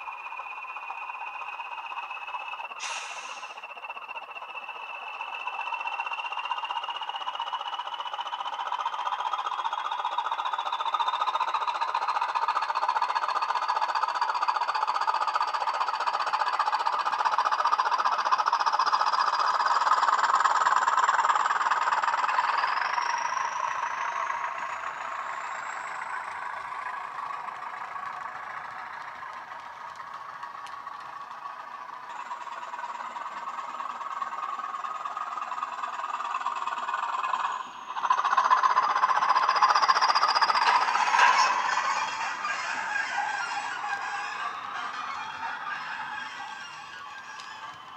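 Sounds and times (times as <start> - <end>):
model diesel engine sound: 0.0 - 47.9.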